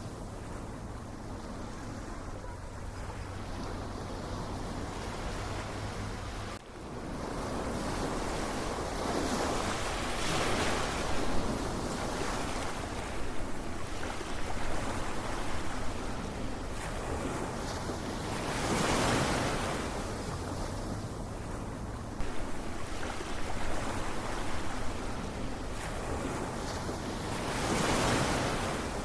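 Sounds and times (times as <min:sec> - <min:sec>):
ocean waves washing in: 0:00.0 - 0:29.0.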